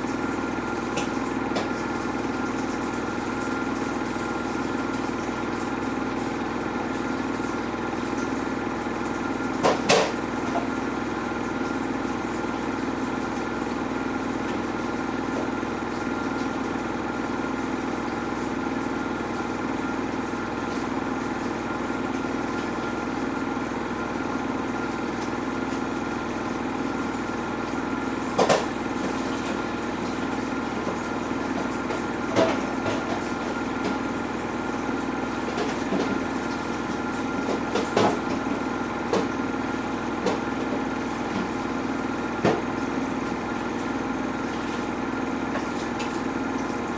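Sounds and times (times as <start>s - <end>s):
washing machine motor hum: 0.0s - 46.9s.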